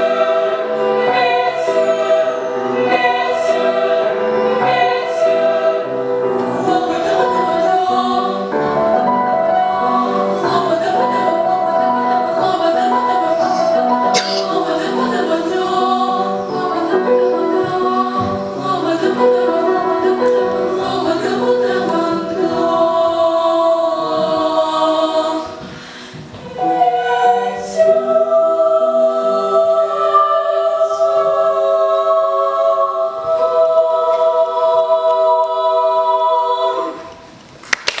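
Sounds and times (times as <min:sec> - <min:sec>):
girls singing in harmony: 0:00.0 - 0:37.4.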